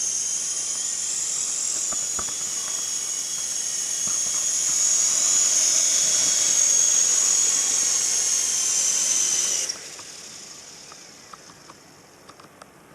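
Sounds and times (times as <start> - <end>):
rotors winding down hiss: 0.0 - 12.2
rc helicopter motor whine: 0.0 - 12.7.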